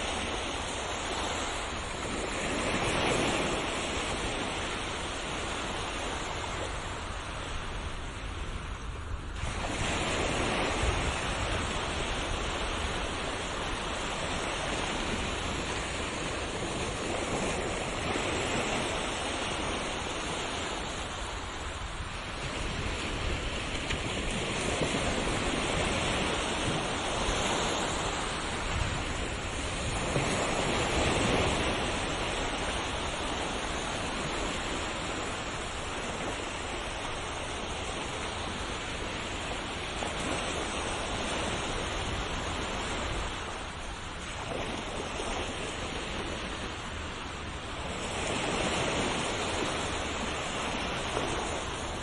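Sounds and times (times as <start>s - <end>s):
ocean waves washing: 0.0s - 52.0s.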